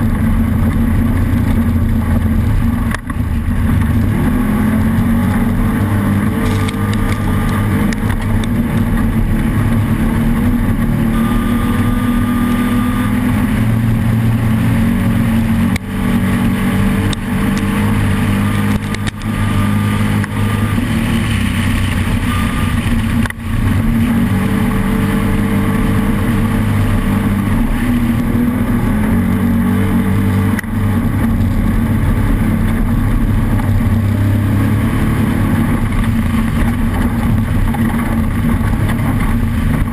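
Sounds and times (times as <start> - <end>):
race vehicle engine running hard: 0.0 - 39.9.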